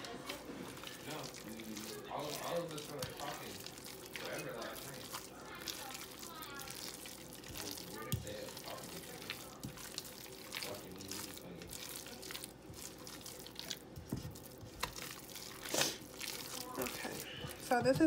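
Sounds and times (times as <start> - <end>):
spatula scraping wet mixture in pan: 0.0 - 18.0.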